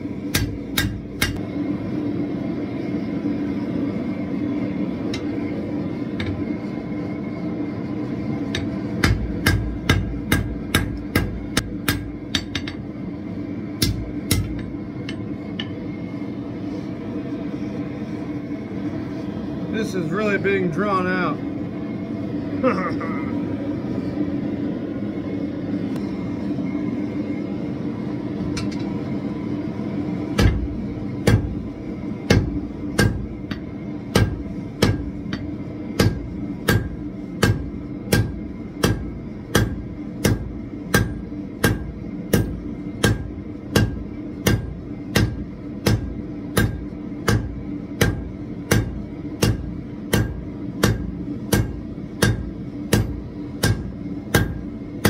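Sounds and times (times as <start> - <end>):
gas forge burner rushing: 0.0 - 55.0.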